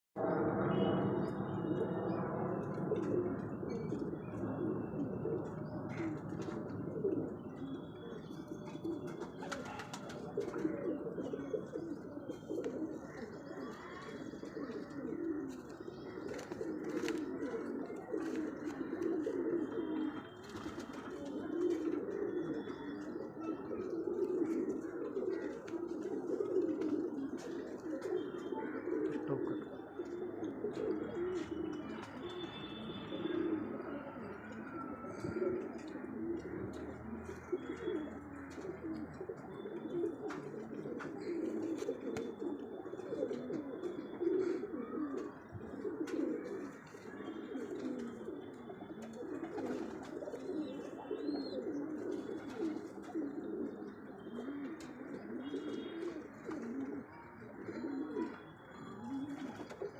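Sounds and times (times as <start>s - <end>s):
pigeons cooing: 0.2s - 59.9s.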